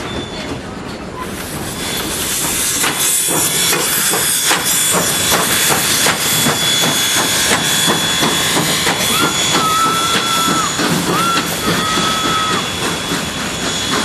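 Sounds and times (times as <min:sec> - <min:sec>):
steam locomotive exhaust beats: 0:00.0 - 0:14.0
hissing steam: 0:01.2 - 0:14.0.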